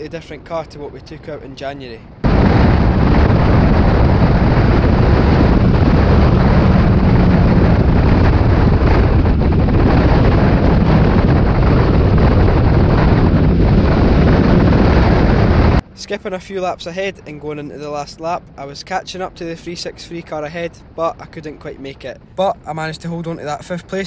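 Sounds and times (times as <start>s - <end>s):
wind buffeting on microphone: 0.0s - 24.0s.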